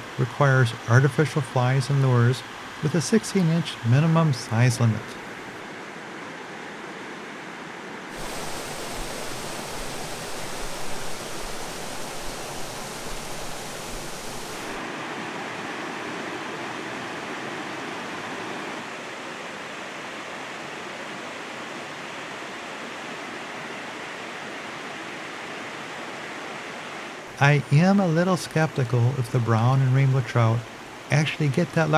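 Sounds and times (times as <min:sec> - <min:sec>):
stream water rushing: 0:00.0 - 0:05.6, 0:08.2 - 0:31.9.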